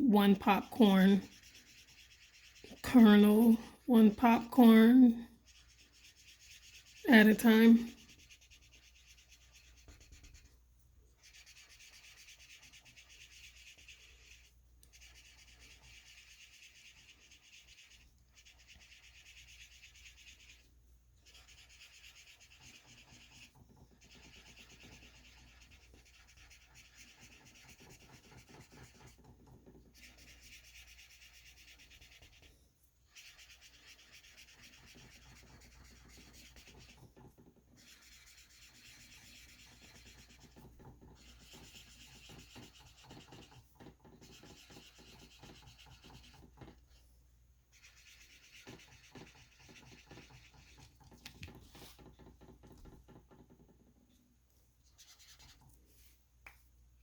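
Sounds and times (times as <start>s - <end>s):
marker scratching on paper: 0.0s - 53.9s, 54.8s - 56.2s.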